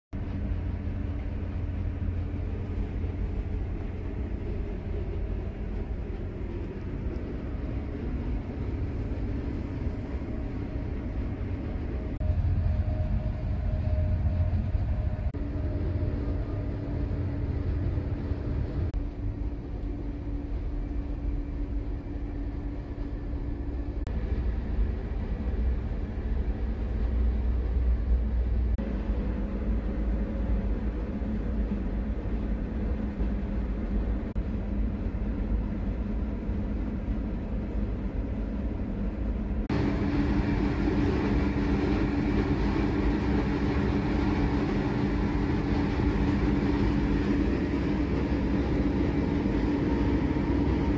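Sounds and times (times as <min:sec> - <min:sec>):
train carriage rumble and hum: 0:00.1 - 0:50.9.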